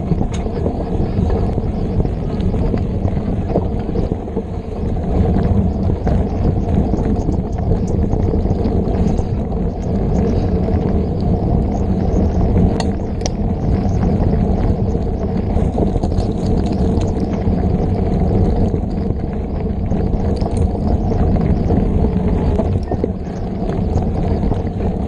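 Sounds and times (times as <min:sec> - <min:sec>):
bike clicks and rattles: 0:00.0 - 0:25.0
tyres rumbling on dirt trail: 0:00.0 - 0:25.0.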